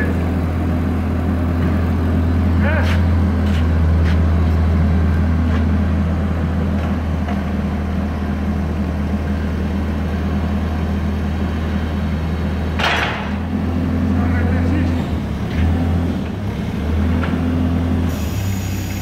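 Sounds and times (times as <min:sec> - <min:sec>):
forklift deep hum: 0:00.0 - 0:19.0.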